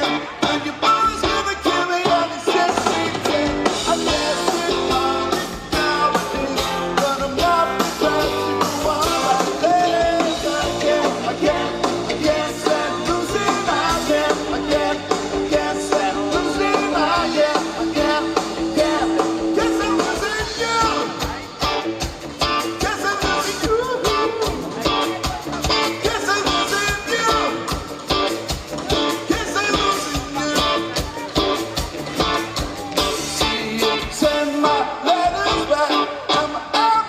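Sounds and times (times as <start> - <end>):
person singing: 0.0 - 21.5, 22.6 - 27.9, 28.9 - 37.0
electric guitar: 0.0 - 37.0
live rock band playing: 0.0 - 37.0.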